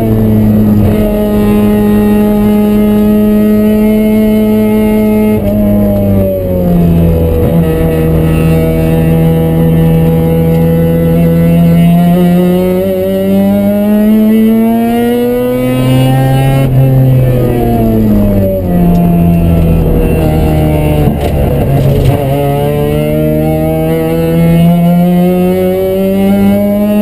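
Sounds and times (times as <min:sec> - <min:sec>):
rotary engine accelerating: 0:00.0 - 0:27.0.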